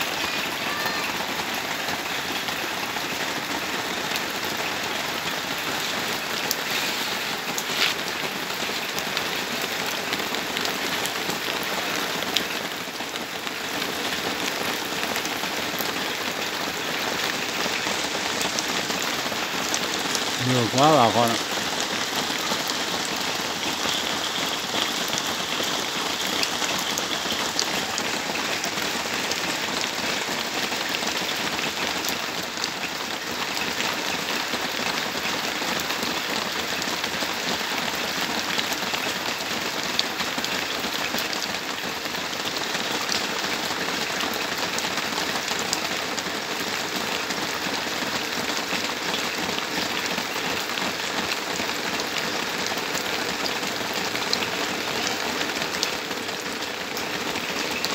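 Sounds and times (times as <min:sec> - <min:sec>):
heavy rain hissing: 0:00.0 - 0:57.9.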